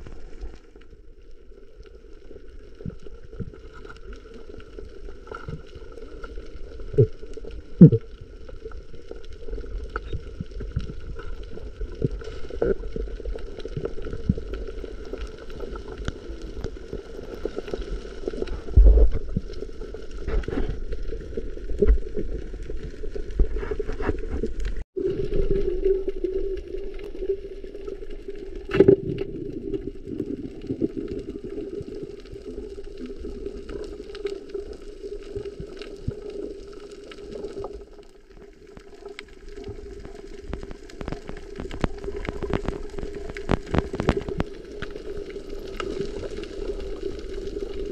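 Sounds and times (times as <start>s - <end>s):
low underwater hum: 0.0s - 47.9s.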